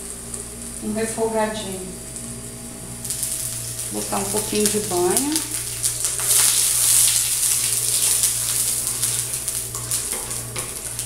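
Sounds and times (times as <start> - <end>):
lard sizzling on a griddle: 0.0 - 11.0.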